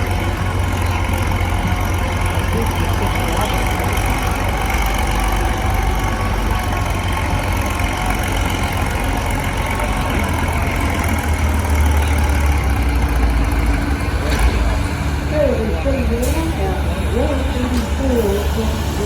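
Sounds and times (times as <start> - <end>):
tractor engine rumbling: 0.0 - 19.0.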